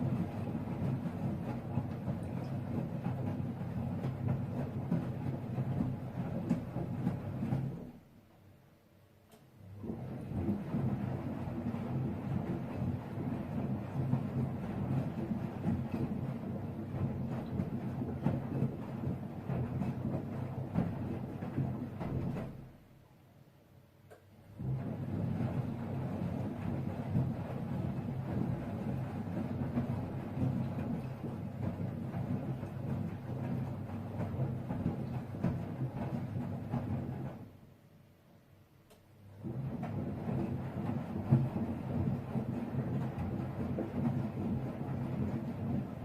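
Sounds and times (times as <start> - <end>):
laundry tumbling knocks: 0.0 - 8.0, 9.8 - 22.8, 24.5 - 37.5, 39.4 - 46.0
washing machine hum and rumble: 0.0 - 8.5, 9.3 - 46.0.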